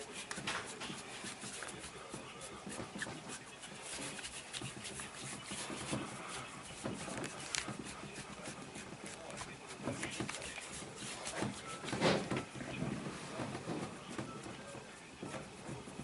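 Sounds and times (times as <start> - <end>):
hands rubbing on body: 0.0 - 14.2
clothing rustling: 0.0 - 16.0.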